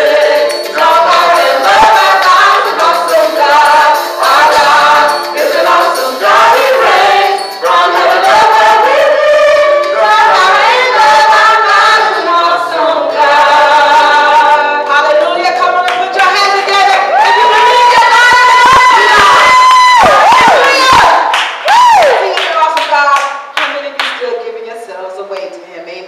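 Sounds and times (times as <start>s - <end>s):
women singing a worship song: 0.0s - 21.3s.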